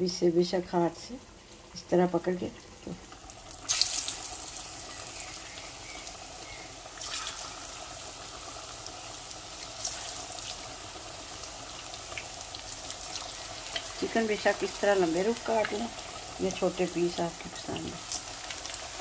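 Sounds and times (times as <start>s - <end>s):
food sizzling in hot oil: 0.1s - 19.0s.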